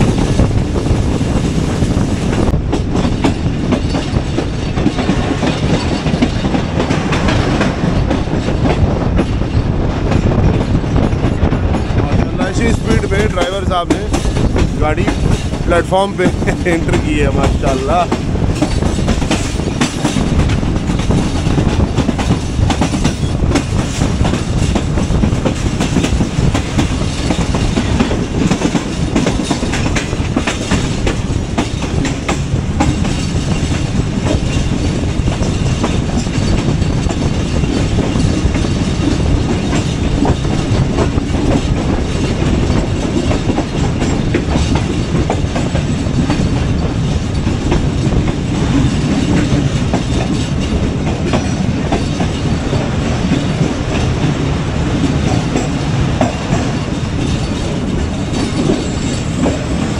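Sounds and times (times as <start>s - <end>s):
train coach rumble: 0.0s - 59.9s
train wheels clacking over rail joints: 0.0s - 59.9s.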